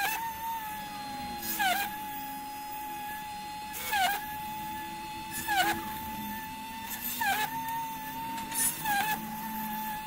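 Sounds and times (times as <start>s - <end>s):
drill bit grinding hiss: 0.0s - 10.0s
small motor whining: 0.0s - 10.0s.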